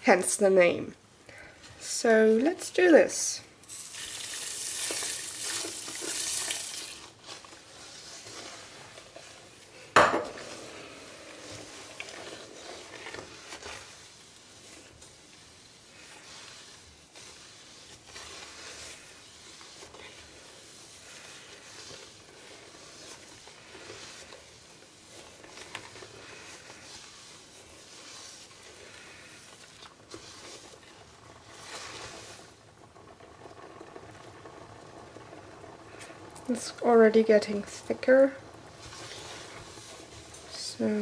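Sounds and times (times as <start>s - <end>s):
spoon swishing liquid in a pot: 3.6s - 41.0s.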